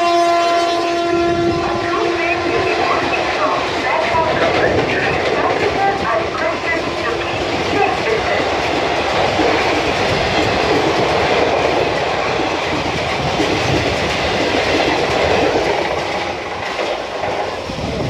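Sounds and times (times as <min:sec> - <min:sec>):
train wheels rushing on rails: 0:00.0 - 0:18.0
clatter over rail joints: 0:03.0 - 0:18.0.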